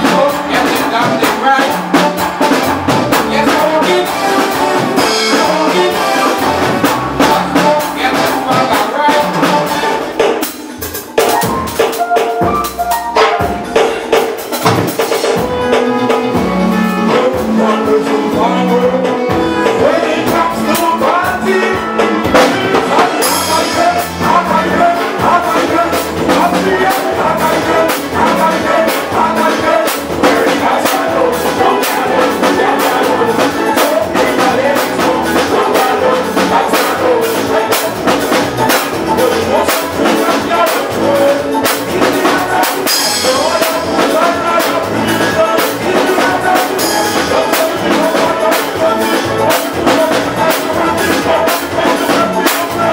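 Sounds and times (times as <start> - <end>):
brass: 0.0 - 10.3, 11.2 - 52.9
drum kit: 0.0 - 52.9
upbeat band playing live: 0.0 - 52.9.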